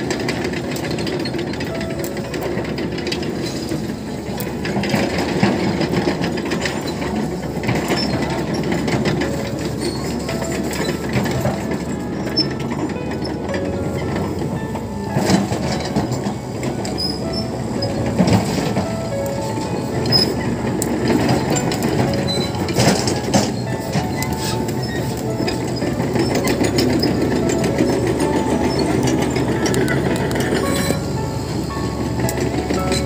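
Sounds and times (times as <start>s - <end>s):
diesel engine running: 0.0s - 33.0s
steel tracks clanking and squeaking: 0.0s - 33.0s.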